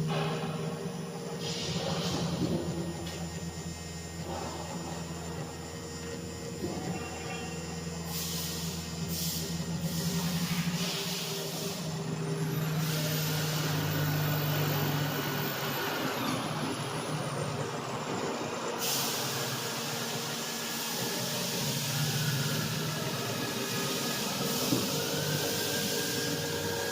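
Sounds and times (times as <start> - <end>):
cnc router spindle whine: 0.0 - 26.9.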